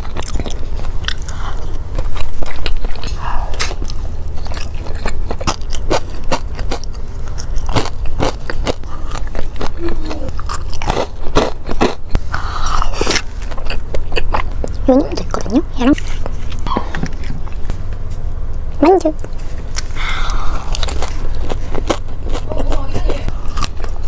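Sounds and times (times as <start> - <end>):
crunchy chewing: 0.0 - 24.0.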